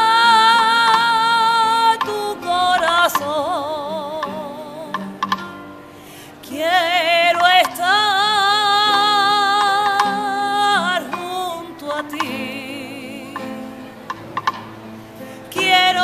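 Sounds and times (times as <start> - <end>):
woman singing: 0.0 - 14.0, 15.2 - 16.0.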